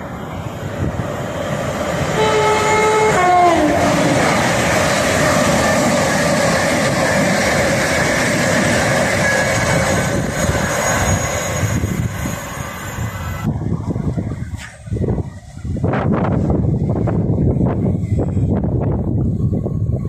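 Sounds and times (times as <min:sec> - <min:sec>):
train wheels rushing on rail: 0:00.0 - 0:20.0.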